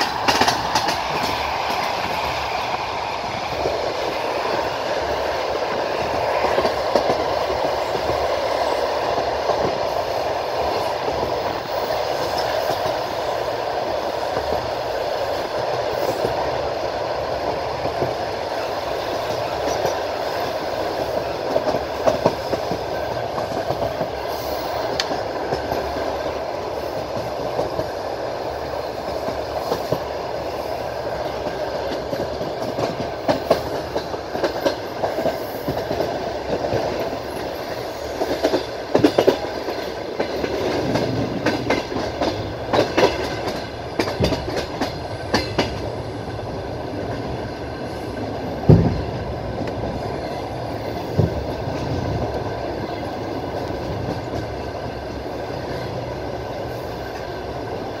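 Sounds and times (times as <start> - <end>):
train wheels clacking over rail joints: 0.0 - 13.3, 17.4 - 56.0
train running rumble: 0.0 - 58.0.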